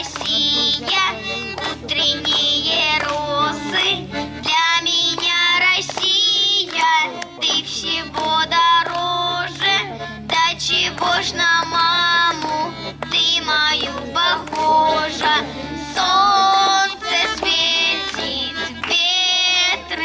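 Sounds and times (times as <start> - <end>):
child singing: 0.0 - 20.0
musical accompaniment: 0.0 - 20.0.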